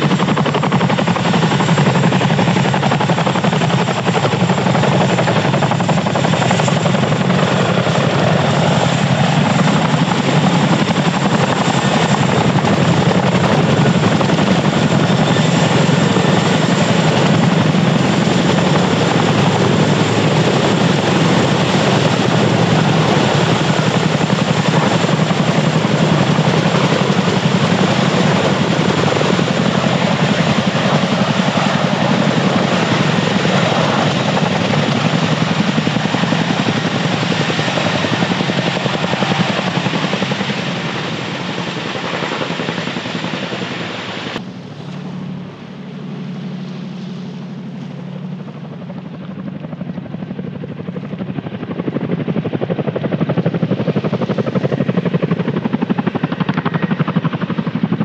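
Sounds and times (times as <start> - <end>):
helicopter rotor noise: 0.0 - 58.0
high turbine whine: 0.0 - 58.0.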